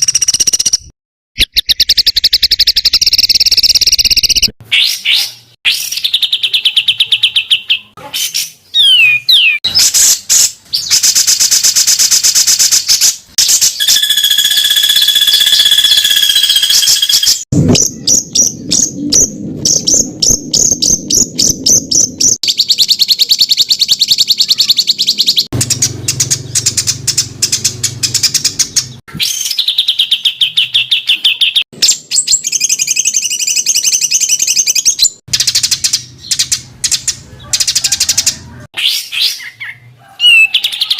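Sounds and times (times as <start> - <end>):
rapid bird calls and trills: 0.0 - 40.9.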